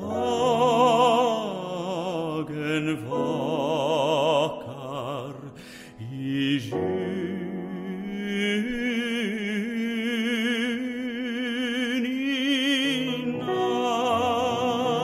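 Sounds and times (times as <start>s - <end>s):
singer holding long notes: 0.0s - 15.0s.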